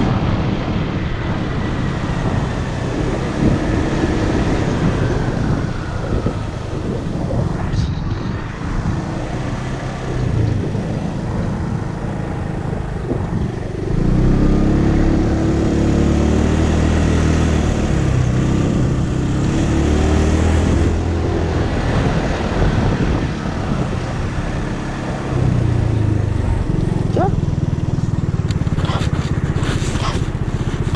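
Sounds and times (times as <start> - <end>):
motorcycle engine running: 0.0 - 30.9
wind and road noise: 0.0 - 30.9.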